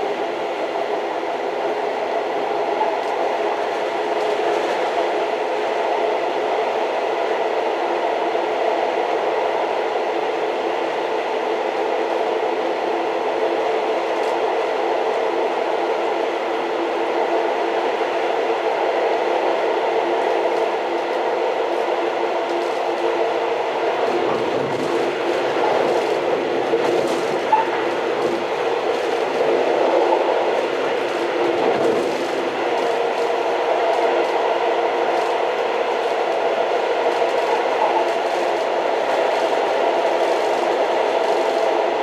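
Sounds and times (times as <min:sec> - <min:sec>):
train running: 0:00.0 - 0:42.0.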